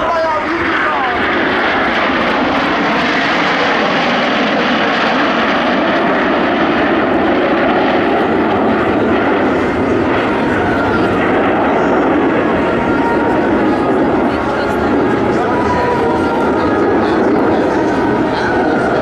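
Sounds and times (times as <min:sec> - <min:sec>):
jet aircraft flying past: 0:00.0 - 0:19.0.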